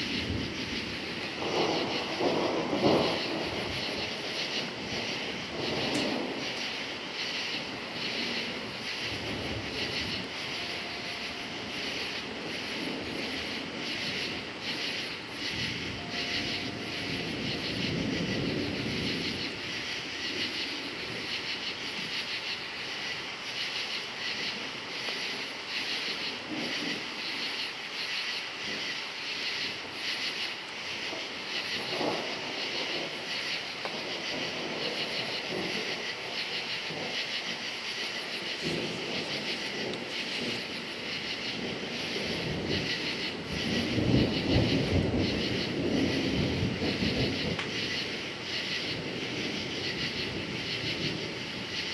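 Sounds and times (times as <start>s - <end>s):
crickets chirping: 0.0s - 51.9s
distant thunder rumbling: 0.0s - 51.9s.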